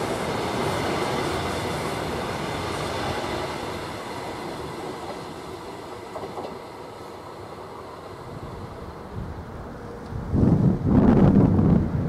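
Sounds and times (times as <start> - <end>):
train coaches rushing past on rails: 0.0 - 12.0.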